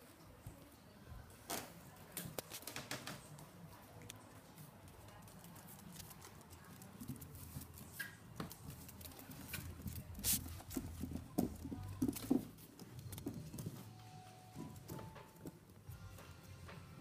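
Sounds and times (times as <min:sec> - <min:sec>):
puppy paws pattering on wooden floor: 0:00.3 - 0:16.4.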